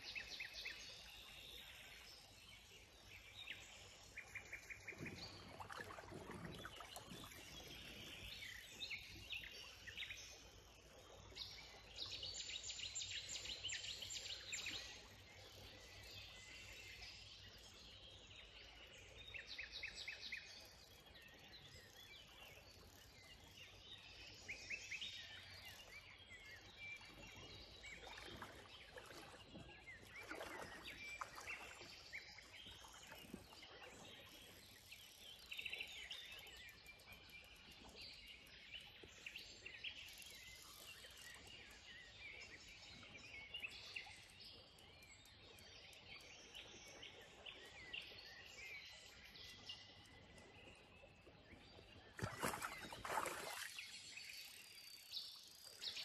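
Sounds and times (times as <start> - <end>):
faint songbirds chirping and trilling: 0.0 - 56.0.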